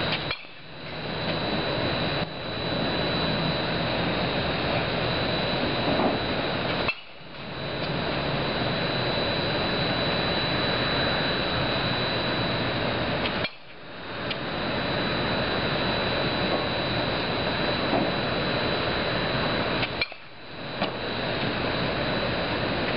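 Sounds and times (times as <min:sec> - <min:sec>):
faint high whine: 0:00.0 - 0:22.9.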